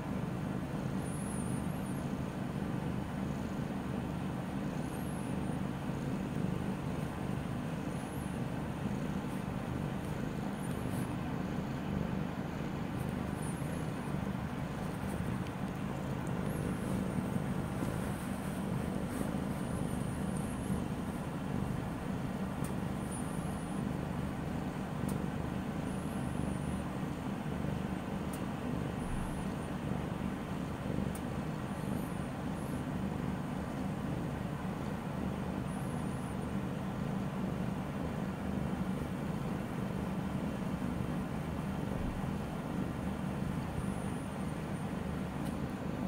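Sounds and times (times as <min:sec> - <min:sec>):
low background rumble: 0:00.0 - 0:46.0.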